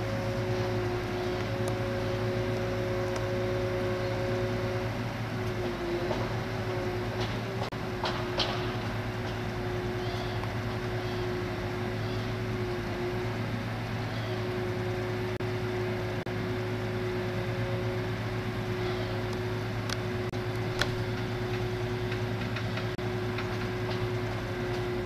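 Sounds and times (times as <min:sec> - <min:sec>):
crane engine running: 0:00.0 - 0:25.0.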